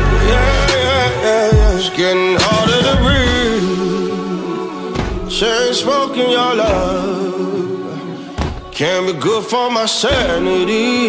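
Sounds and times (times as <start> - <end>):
man singing soul song: 0.0 - 11.0.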